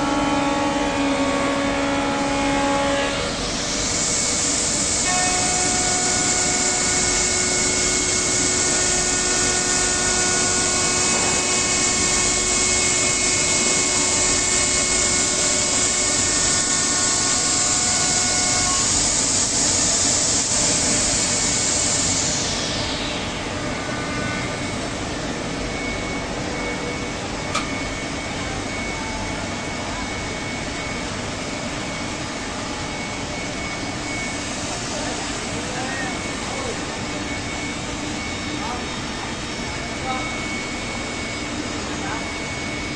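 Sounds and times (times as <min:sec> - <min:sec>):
machine hum: 0:00.0 - 0:42.9
machine spindle whine: 0:00.0 - 0:42.9.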